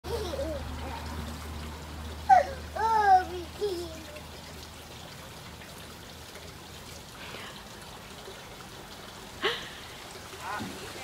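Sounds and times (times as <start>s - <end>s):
faint outdoor background hiss: 0.1s - 11.0s.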